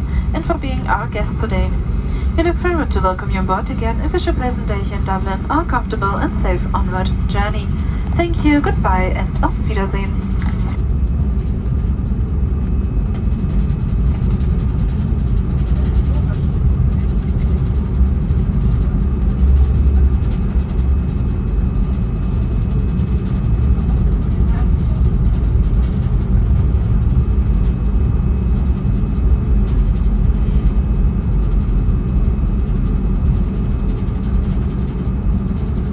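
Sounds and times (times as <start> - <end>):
airliner cabin rumble: 0.0 - 35.9.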